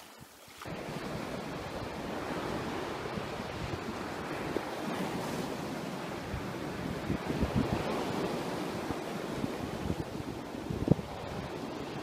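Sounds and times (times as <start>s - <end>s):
surf on rocky shore: 0.0s - 12.0s
wind rumbling on microphone: 0.2s - 12.0s.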